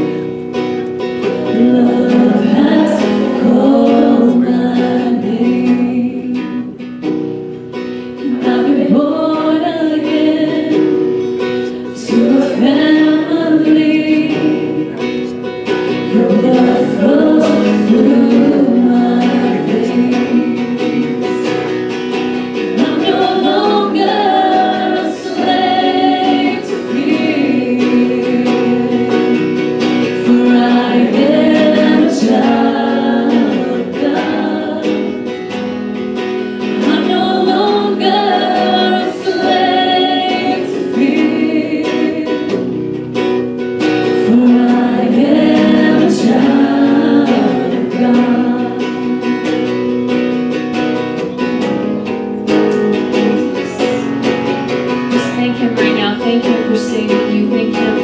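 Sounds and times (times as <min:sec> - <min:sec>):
acoustic guitar strumming: 0:00.0 - 0:58.0
woman singing: 0:01.1 - 0:06.9, 0:08.2 - 0:35.6, 0:36.5 - 0:43.1, 0:43.8 - 0:49.8, 0:52.7 - 0:58.0.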